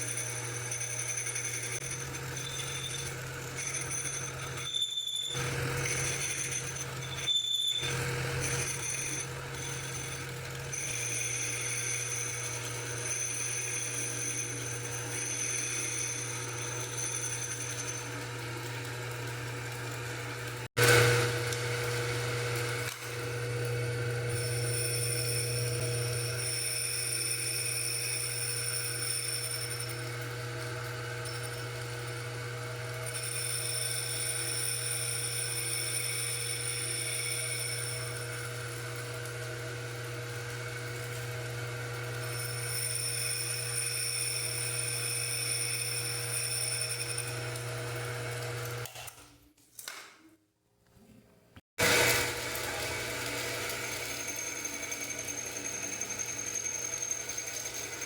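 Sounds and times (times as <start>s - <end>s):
lathe motor hum: 0.0s - 4.6s, 7.8s - 48.9s, 51.8s - 58.0s.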